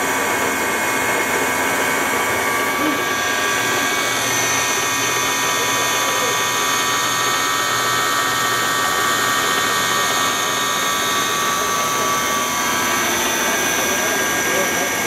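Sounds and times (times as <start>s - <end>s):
milling machine whine: 0.0s - 15.0s.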